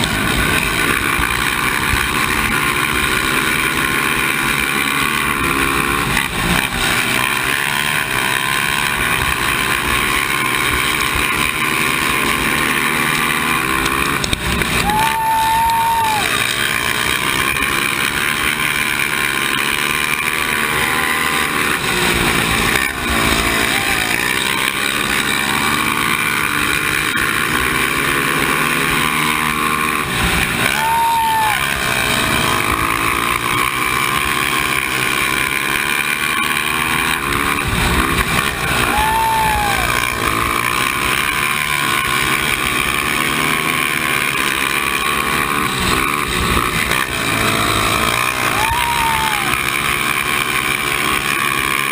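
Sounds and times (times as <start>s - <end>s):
other quads running: 0.0s - 51.9s
quad engine revving: 0.0s - 51.9s.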